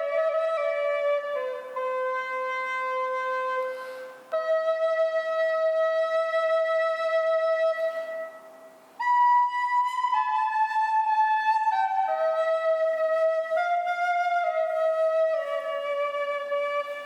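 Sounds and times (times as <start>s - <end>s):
flute-like wind instrument: 0.0s - 17.0s.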